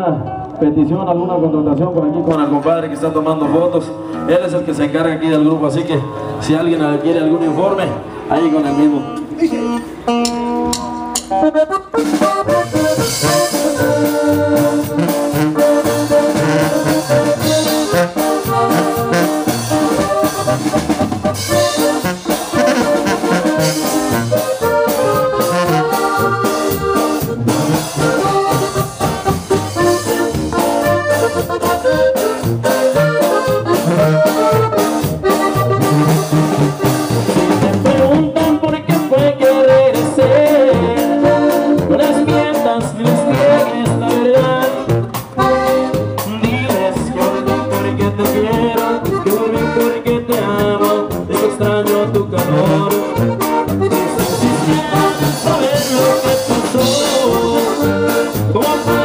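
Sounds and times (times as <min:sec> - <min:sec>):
live band through pa: 0:00.0 - 0:59.0
tuba: 0:09.6 - 0:59.0.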